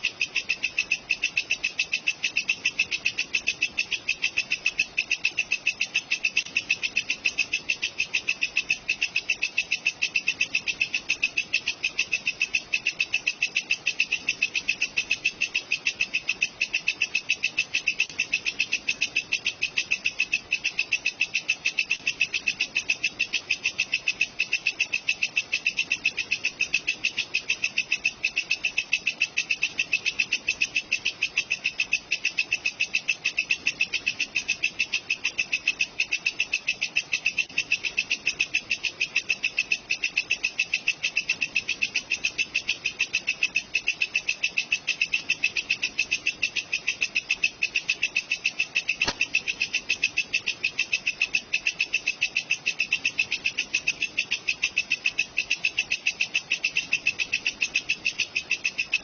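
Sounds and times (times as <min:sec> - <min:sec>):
katydid chirping: 0:00.0 - 0:59.0.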